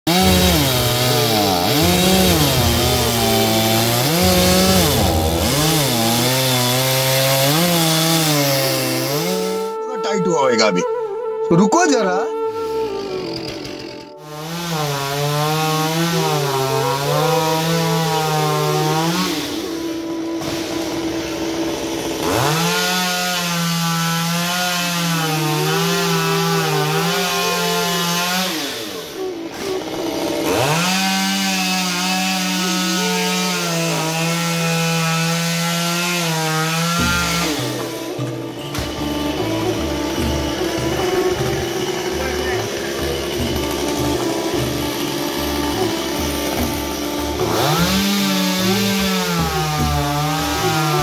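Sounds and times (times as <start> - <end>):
chainsaw cutting wood: 0.1 - 9.8, 12.4 - 51.0.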